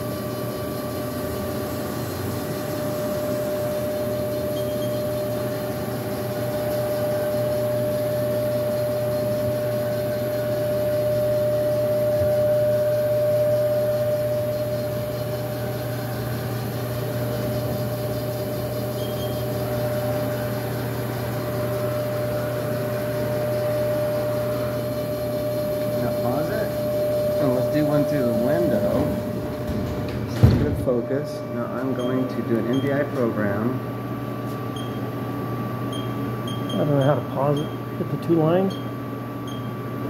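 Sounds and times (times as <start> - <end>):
lathe spindle whine: 0.0 - 40.0
low machine hum: 0.0 - 40.0.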